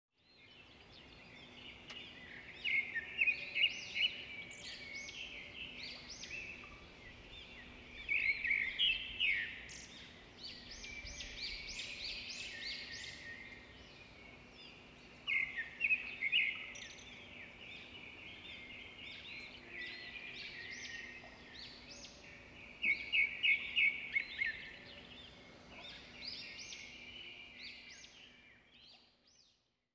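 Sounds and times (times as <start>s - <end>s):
birds chirping: 0.3s - 29.3s.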